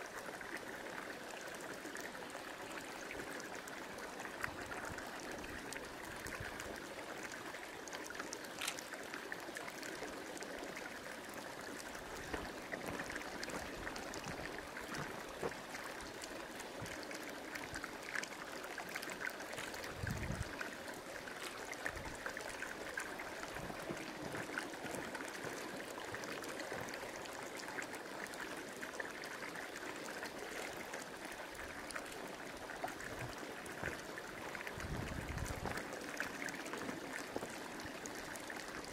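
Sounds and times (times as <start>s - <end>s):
hot spring water bubbling: 0.0s - 38.9s.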